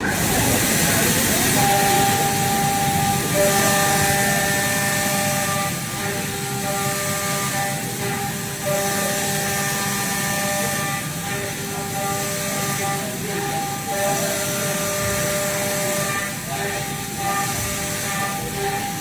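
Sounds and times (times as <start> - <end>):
machine tones: 0.0 - 19.0
milling machine hiss: 0.0 - 19.0.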